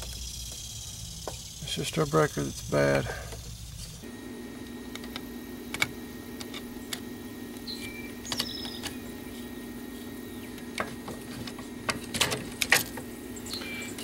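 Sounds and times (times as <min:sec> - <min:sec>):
small motor humming: 0:00.0 - 0:14.0.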